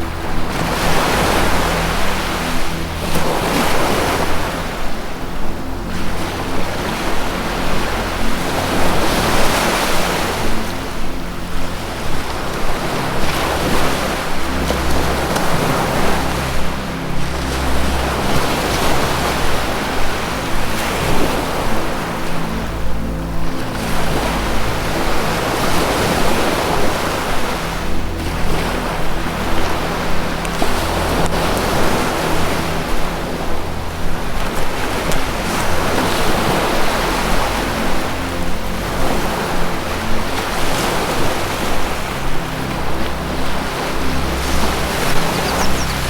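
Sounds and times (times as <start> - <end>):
ambient music: 0.0 - 46.0
ocean waves washing: 0.0 - 46.0.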